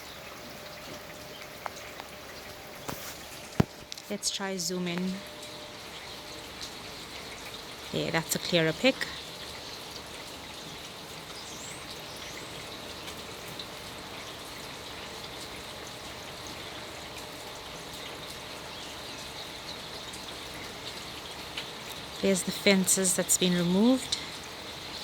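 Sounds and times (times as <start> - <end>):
water pouring over a dam: 0.0 - 4.2, 4.8 - 25.0.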